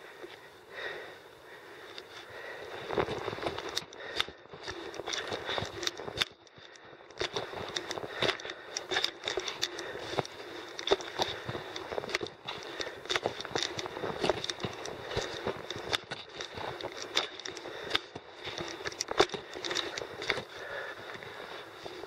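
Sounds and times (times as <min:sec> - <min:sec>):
footsteps on rocky ground: 0:02.0 - 0:22.0.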